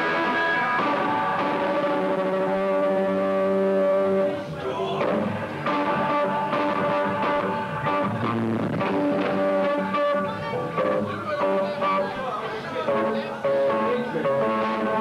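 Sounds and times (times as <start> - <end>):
distorted electric guitar chords: 0.0 - 12.2, 12.8 - 15.0
live rock band playing: 0.0 - 15.0.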